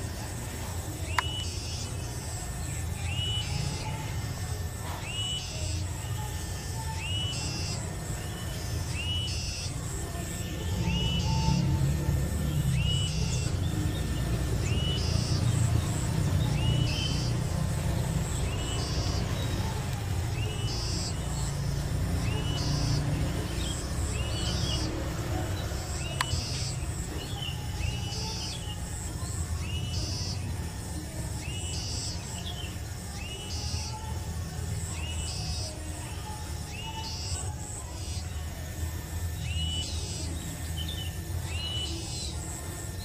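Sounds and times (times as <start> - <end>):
bird chirping: 0.0 - 43.0.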